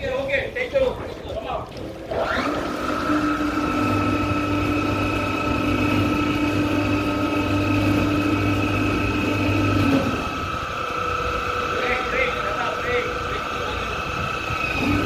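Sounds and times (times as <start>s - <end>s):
winch motor whining: 0.0s - 15.0s.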